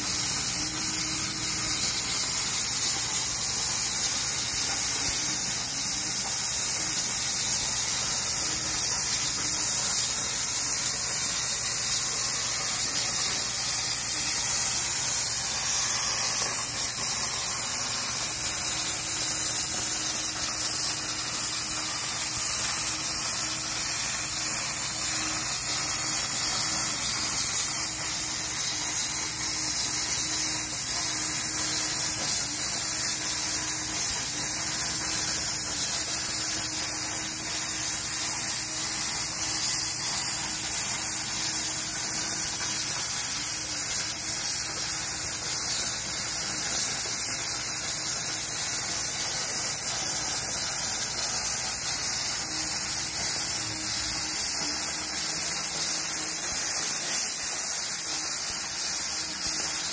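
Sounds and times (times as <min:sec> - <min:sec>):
plasma cutter hissing: 0:00.0 - 0:59.9.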